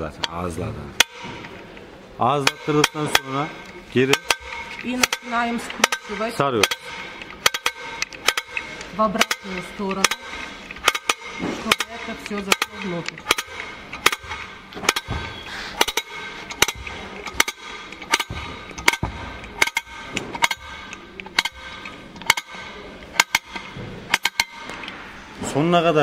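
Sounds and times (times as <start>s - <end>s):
sharp metallic ratchet clicks: 0.0s - 25.3s.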